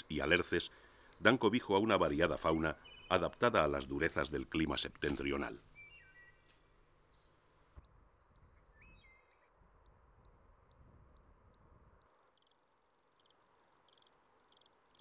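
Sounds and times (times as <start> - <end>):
high songbird chirps: 1.2 - 15.0.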